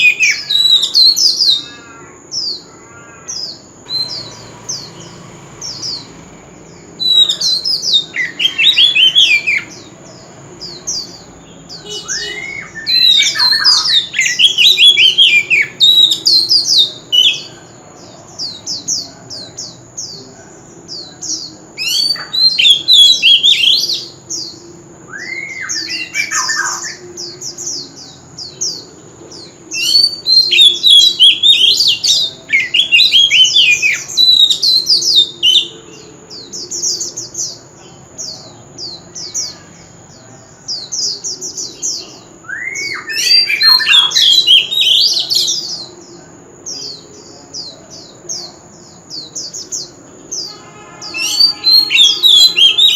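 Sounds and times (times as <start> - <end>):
bird singing whistled notes: 0.0 - 2.6, 3.4 - 20.3, 20.9 - 52.9.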